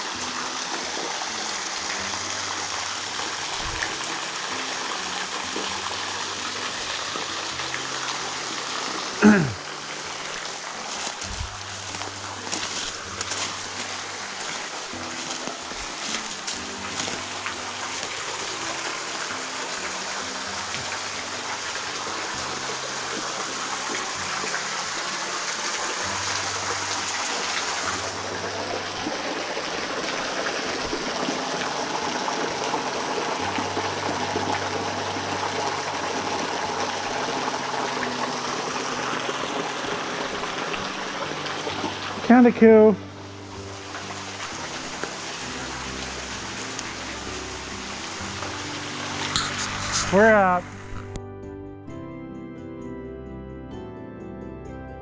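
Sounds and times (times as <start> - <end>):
stream of running water: 0.0 - 51.2.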